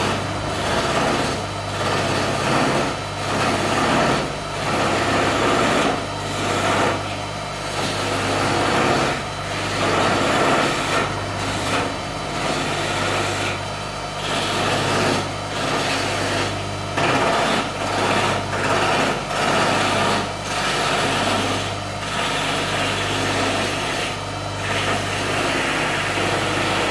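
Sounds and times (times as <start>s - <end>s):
lathe motor running: 0.0s - 26.9s
turning tool cutting wood: 0.0s - 26.9s.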